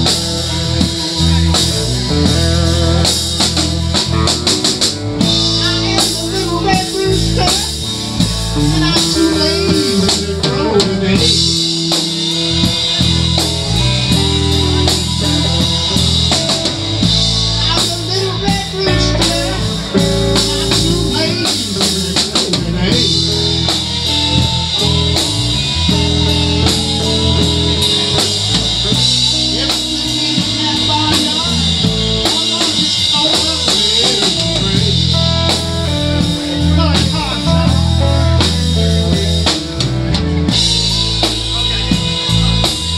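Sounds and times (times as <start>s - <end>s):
drum kit: 0.0s - 42.9s
electric guitars: 0.0s - 42.9s
steady low bass line: 0.0s - 42.9s.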